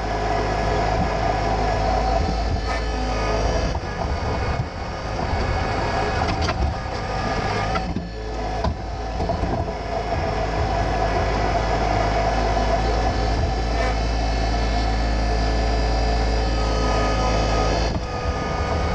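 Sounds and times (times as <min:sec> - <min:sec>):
tractor diesel engine under load: 0:00.0 - 0:18.9.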